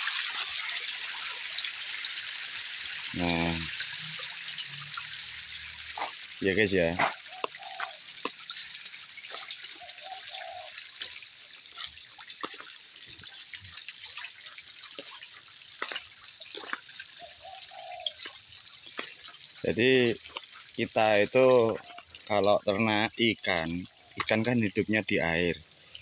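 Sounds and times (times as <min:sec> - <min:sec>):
fish splashing at water surface: 0:00.0 - 0:24.8.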